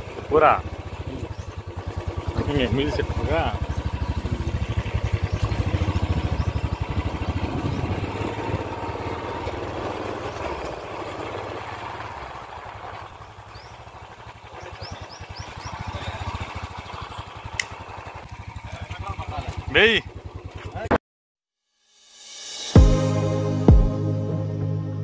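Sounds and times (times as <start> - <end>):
scooter engine running: 0.0 - 20.9.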